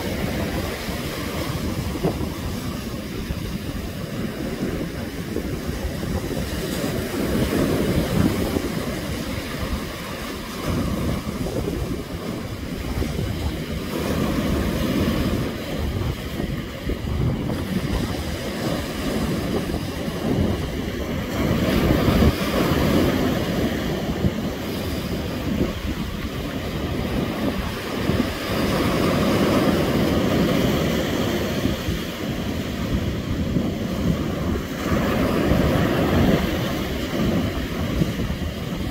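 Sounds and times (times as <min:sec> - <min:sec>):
surf breaking over rocks: 0:00.0 - 0:38.9
wind buffeting microphone: 0:00.0 - 0:38.9.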